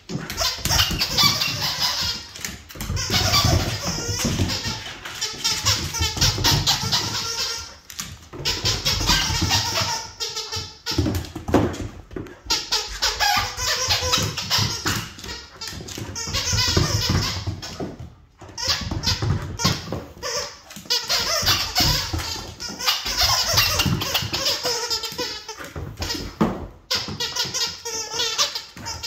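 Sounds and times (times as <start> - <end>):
dog playing with toy: 0.0 - 29.0.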